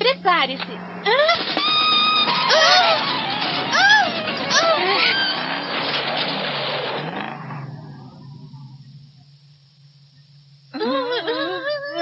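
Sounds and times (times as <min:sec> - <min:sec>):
car engine roar: 0:00.0 - 0:10.7
low steady hum: 0:00.0 - 0:12.0.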